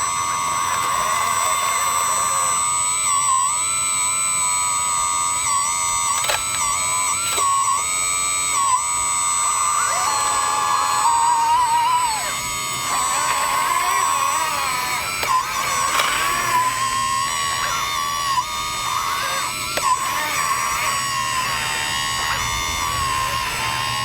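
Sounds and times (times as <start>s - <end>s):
high-pitched electric motor whine: 0.0s - 24.0s.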